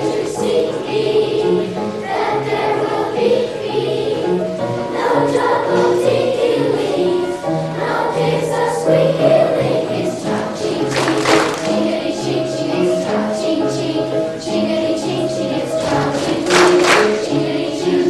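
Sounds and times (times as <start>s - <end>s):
children's choir singing: 0.0s - 18.0s
instrumental accompaniment: 0.0s - 18.0s.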